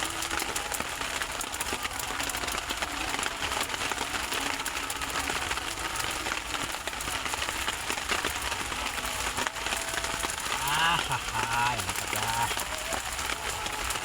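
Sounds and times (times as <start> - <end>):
rice sizzling in a frying pan: 0.0 - 14.0.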